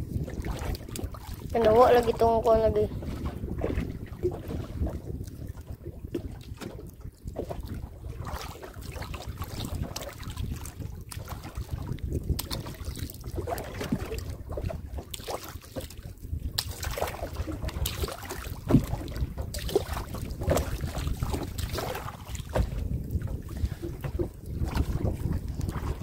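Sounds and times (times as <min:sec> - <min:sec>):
water splashing: 0:00.0 - 0:26.0
wind rumbling on microphone: 0:00.0 - 0:26.0.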